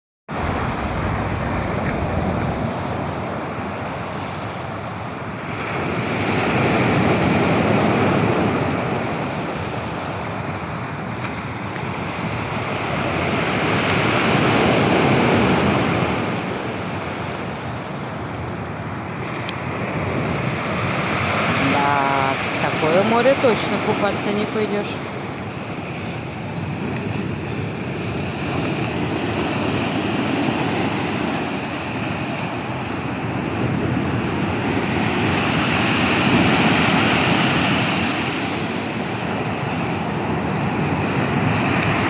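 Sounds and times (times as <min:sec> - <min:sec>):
surf breaking on shore: 0:00.3 - 0:42.0
wind buffeting microphone: 0:00.3 - 0:42.0.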